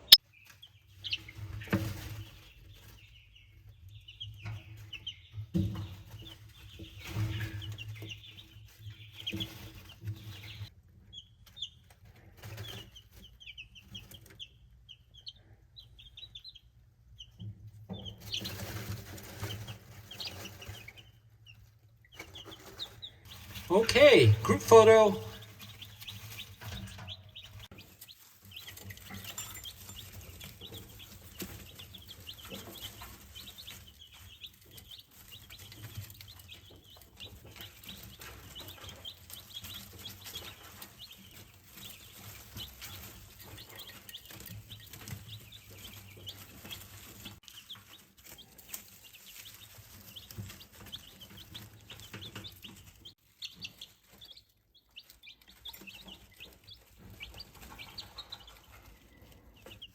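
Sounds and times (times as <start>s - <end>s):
baby chicks peeping: 0.0s - 59.9s.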